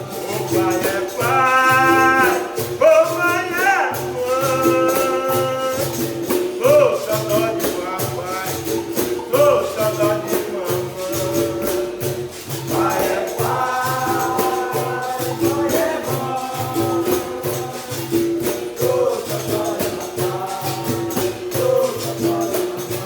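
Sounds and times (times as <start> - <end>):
hand drum steady low beat: 0.0 - 23.0
pandeiro jingles: 0.0 - 23.0
voices singing: 0.0 - 23.0.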